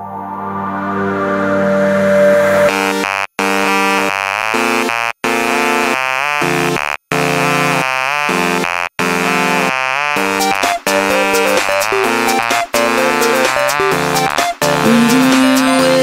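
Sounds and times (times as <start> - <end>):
electronic music with buzzy synthesizer: 0.0 - 16.0.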